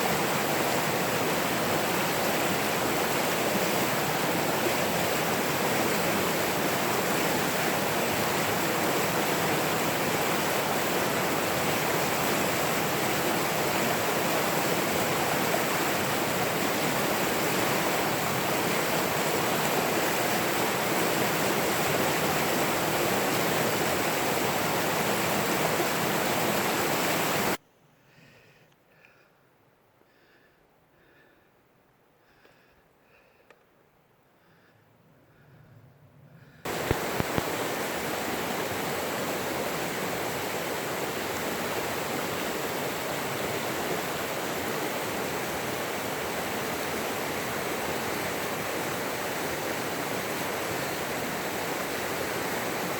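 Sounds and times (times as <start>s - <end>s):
running water rushing: 0.0s - 27.6s, 36.7s - 52.9s.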